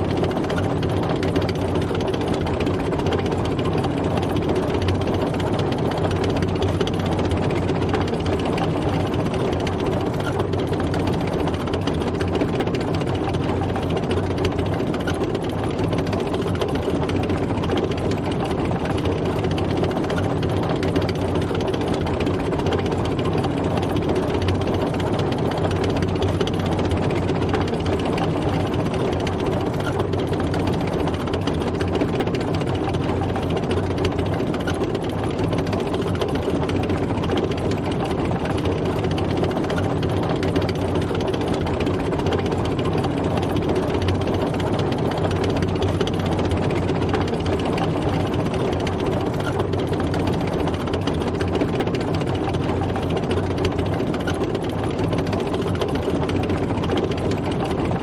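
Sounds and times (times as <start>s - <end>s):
tank engine running: 0.0s - 58.0s.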